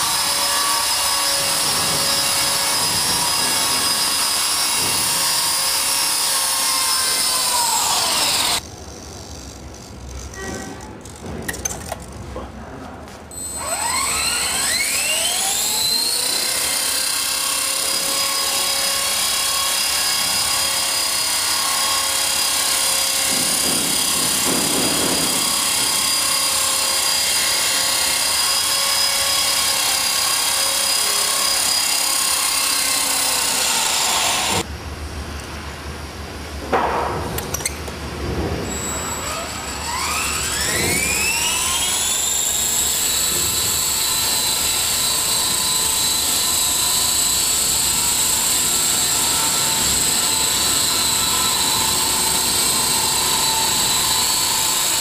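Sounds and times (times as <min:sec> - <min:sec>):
rc helicopter motor whining: 0:00.0 - 0:10.4, 0:13.4 - 0:34.6, 0:38.8 - 0:55.0.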